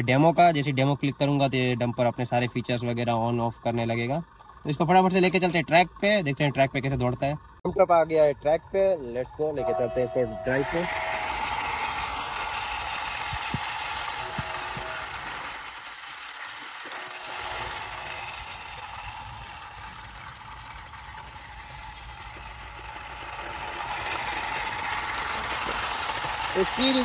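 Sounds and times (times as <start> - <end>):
toy truck motor and gears whirring: 0.0 - 27.0
faint steady whine: 0.1 - 27.0.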